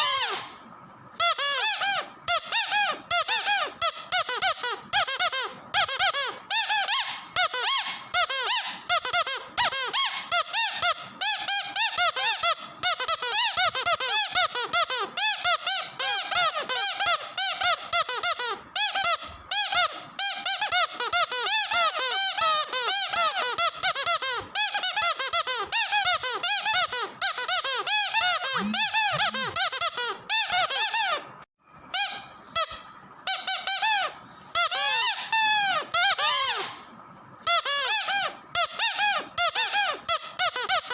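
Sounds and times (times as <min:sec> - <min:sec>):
squeaky dog toy squeaking: 0:00.0 - 0:40.9.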